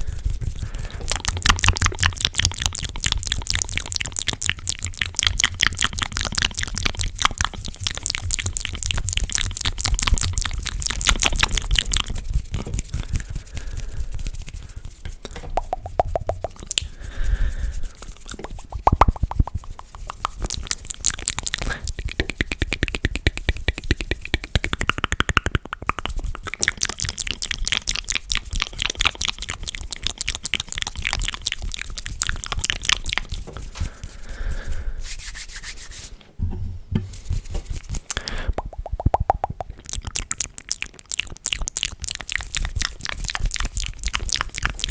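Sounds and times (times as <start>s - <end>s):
wet mouth clicks and smacking: 0.0s - 34.6s, 37.6s - 44.9s.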